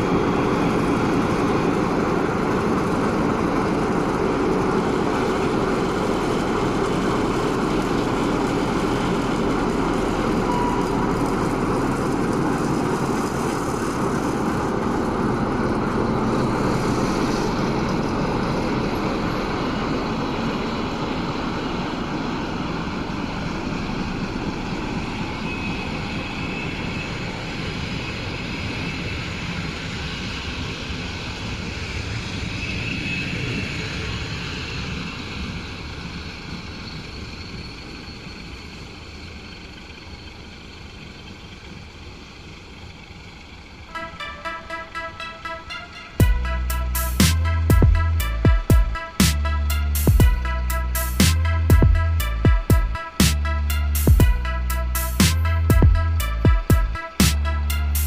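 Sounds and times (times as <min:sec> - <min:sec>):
diesel locomotive engine under load: 0:00.0 - 0:58.0.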